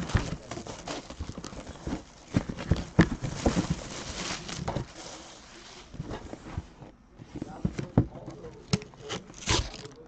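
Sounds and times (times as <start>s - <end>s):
wrapper rustling: 0.0s - 7.7s, 8.3s - 10.0s.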